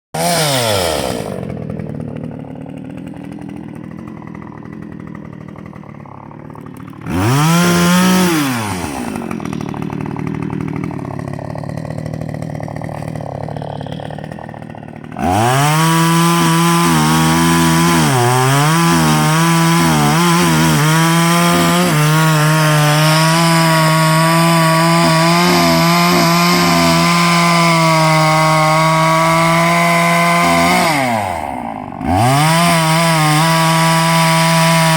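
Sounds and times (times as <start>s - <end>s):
chainsaw engine idling and revving: 0.2s - 34.9s.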